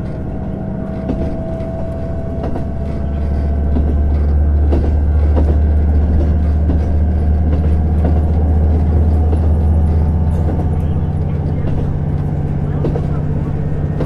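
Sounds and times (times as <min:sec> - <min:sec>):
diesel railcar engine drone: 0:00.0 - 0:14.0
faint clicks from track: 0:00.0 - 0:14.0
rail noise: 0:00.0 - 0:14.0.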